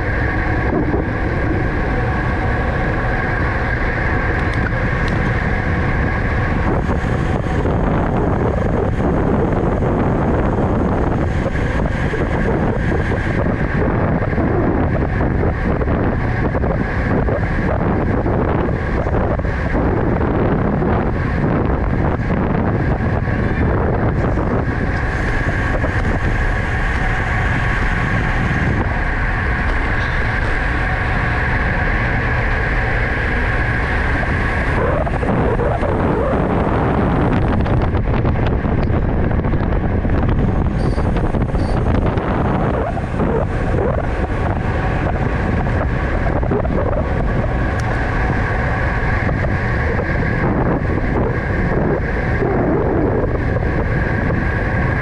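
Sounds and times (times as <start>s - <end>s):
steady whir: 0.0s - 55.0s
wind rushing over microphone: 0.0s - 55.0s.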